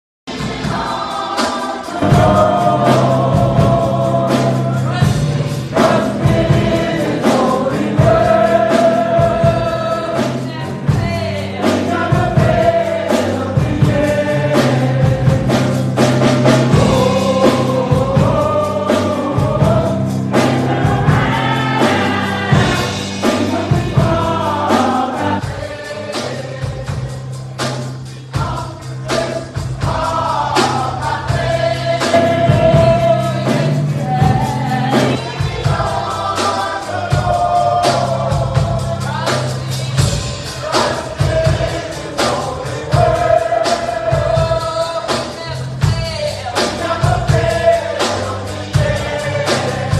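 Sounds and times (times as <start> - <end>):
gospel choir singing: 0.3 - 49.9
instrumental backing with beat: 0.3 - 49.9.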